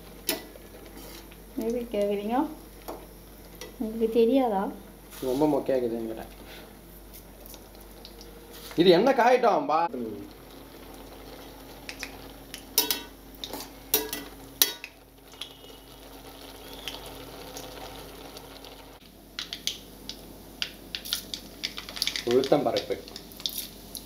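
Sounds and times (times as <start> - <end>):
seeds crackling in hot oil: 0.0 - 24.0.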